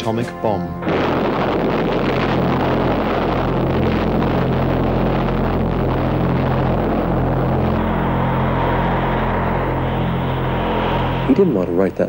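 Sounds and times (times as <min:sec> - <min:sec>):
explosion rumbling roar: 0:00.8 - 0:12.0.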